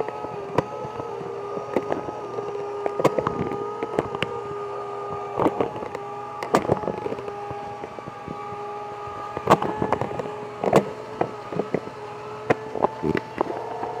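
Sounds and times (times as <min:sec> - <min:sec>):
sharp clicks and knocks: 0:00.0 - 0:14.0
small electric motor whining: 0:00.0 - 0:14.0.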